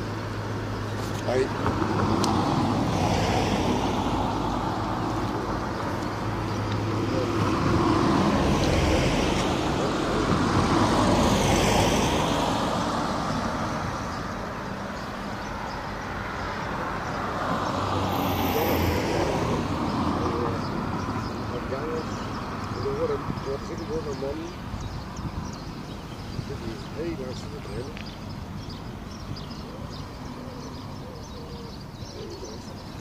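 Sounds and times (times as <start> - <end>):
cars passing by: 0.0 - 33.0.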